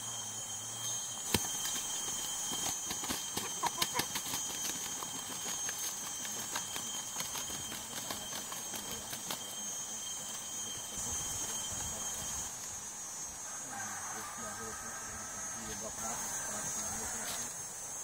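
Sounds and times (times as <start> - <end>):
insects droning: 0.0 - 18.0
lower whine: 0.0 - 18.0.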